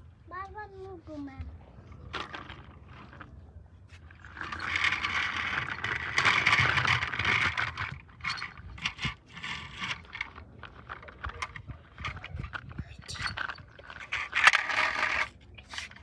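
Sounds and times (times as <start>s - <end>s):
rough scraping: 2.0s - 16.0s.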